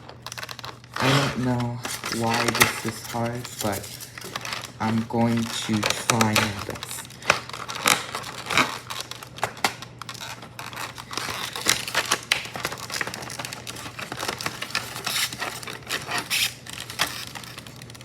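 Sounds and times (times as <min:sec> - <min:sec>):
packaging crinkling and clicking: 0:00.0 - 0:18.0.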